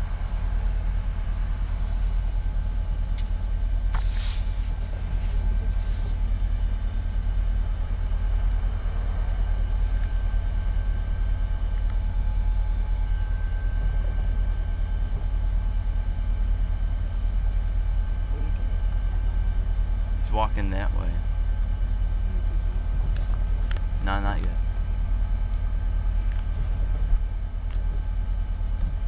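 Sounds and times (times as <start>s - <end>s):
faint whining tones: 0.0s - 29.0s
low engine rumble: 0.0s - 29.0s.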